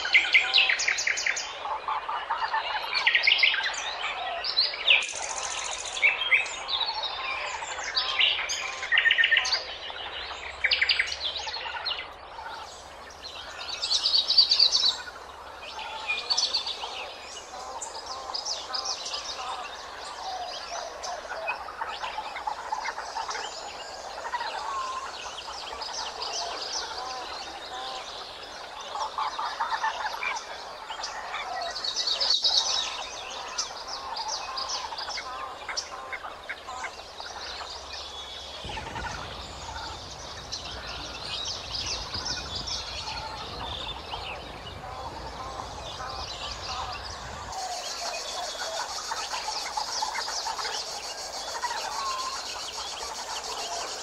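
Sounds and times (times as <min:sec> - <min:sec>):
small birds chirping: 0:03.1 - 0:54.0.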